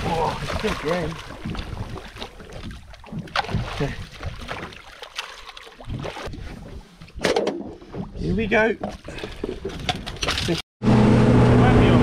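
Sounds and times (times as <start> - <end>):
water splashing by a boat: 0.0 - 10.2.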